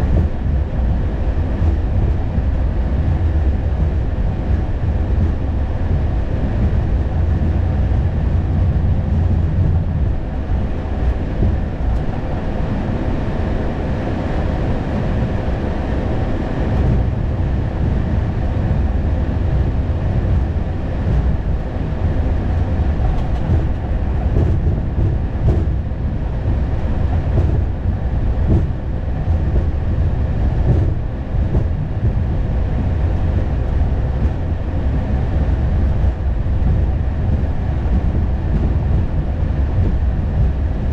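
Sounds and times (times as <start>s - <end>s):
cockpit low rumble: 0.0s - 40.9s.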